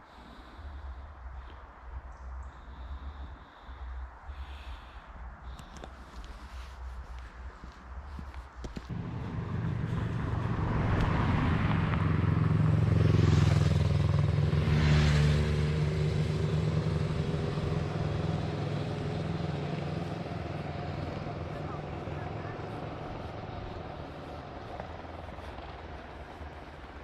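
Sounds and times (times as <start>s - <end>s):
low engine hum: 0.0s - 27.0s
vehicle passing on road: 0.2s - 27.0s.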